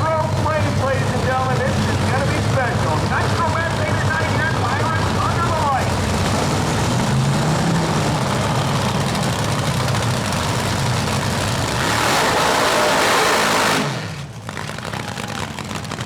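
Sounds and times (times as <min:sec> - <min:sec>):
drag racing engines revving: 0:00.0 - 0:16.0.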